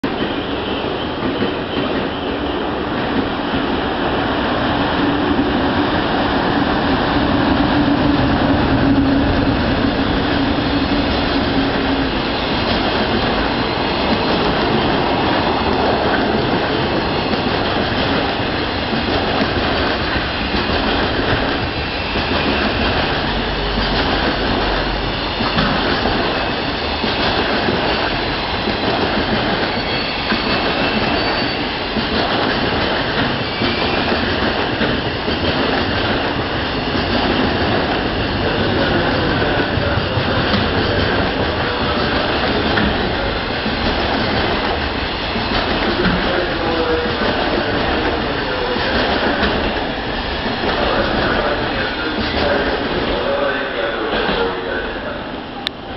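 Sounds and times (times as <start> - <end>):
train wheels rumbling on rail: 0.0 - 55.9
clickety-clack over rail joints: 7.4 - 53.2.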